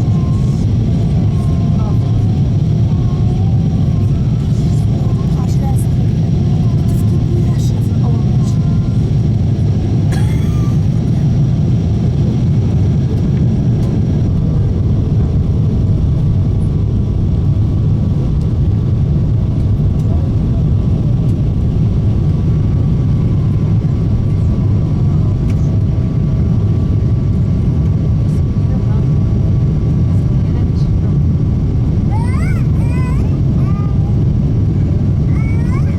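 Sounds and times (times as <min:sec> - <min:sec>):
airplane cabin engine roar: 0:00.0 - 0:35.9.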